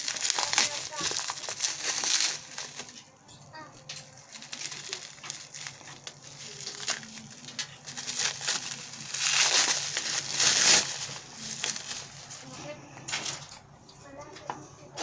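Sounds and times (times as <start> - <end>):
bubble wrap crinkling: 0.0 - 13.4.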